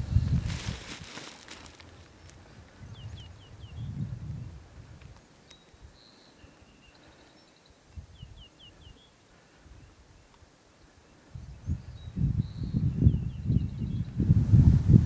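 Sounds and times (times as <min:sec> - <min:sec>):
songbird singing: 0:00.0 - 0:14.4.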